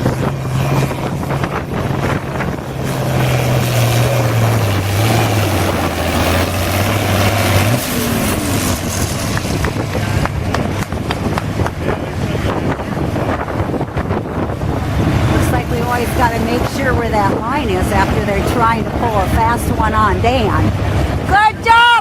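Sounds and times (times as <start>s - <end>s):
tractor engine under load: 0.0s - 22.0s.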